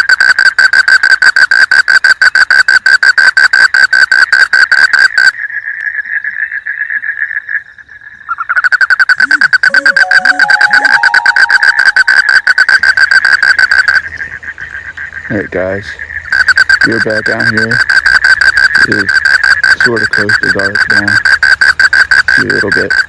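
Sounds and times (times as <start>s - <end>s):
frogs trilling: 0.0s - 23.0s.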